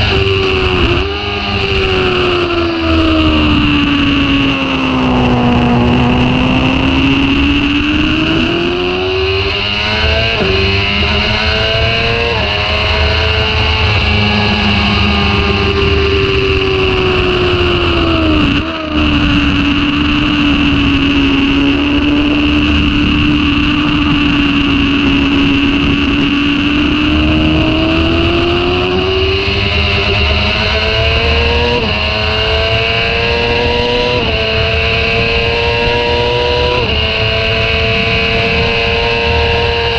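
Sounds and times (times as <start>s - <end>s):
heavy wind rush: 0.0s - 39.9s
motorcycle engine at full speed: 0.0s - 39.9s.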